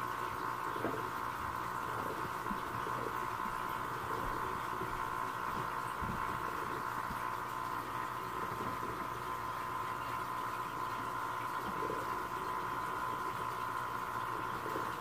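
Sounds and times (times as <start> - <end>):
aquarium filter humming: 0.0 - 15.0.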